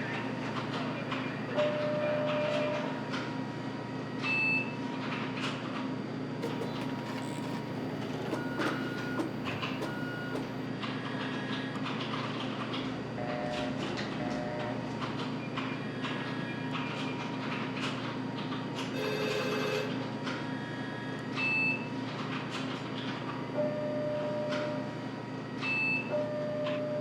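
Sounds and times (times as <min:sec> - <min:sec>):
steady office hum: 0:00.0 - 0:27.0.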